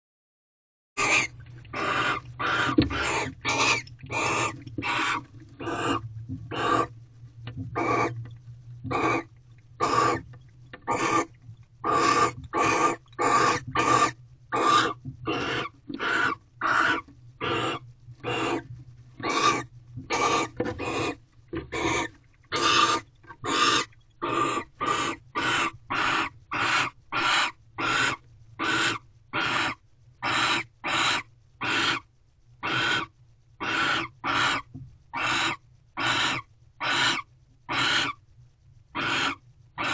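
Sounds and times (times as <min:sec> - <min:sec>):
barn owl hissing calls: 0:01.0 - 0:06.9, 0:07.8 - 0:08.2, 0:08.9 - 0:10.3, 0:10.9 - 0:38.2, 0:39.0 - 0:39.9.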